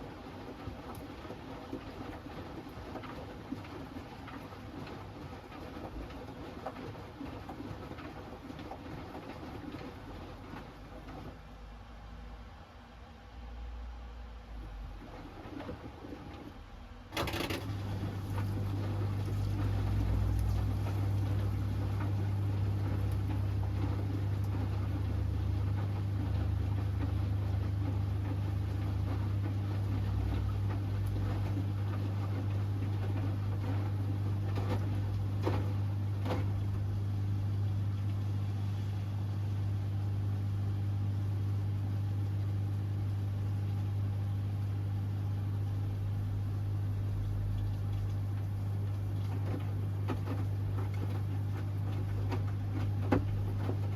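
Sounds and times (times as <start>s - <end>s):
washing machine running: 0.0s - 53.9s.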